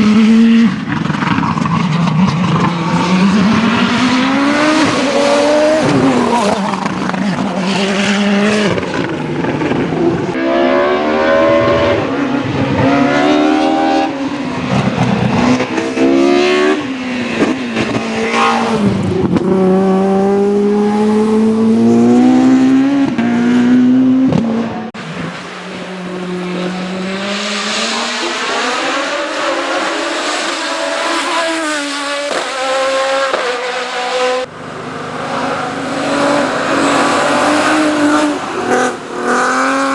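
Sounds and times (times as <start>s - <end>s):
race car engines at full throttle: 0.0s - 39.9s.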